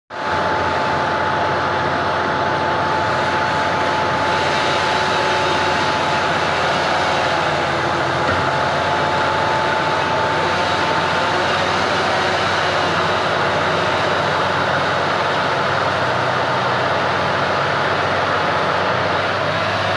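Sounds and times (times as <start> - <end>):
heavy diesel machinery running: 0.1 - 19.9
thin steady whine: 0.1 - 19.9.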